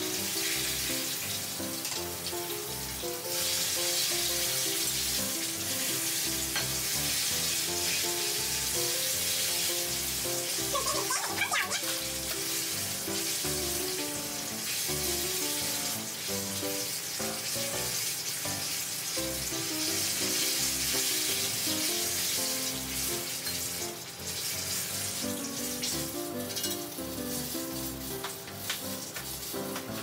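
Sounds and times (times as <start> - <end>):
bananas sizzling in hot oil: 0.0 - 30.0.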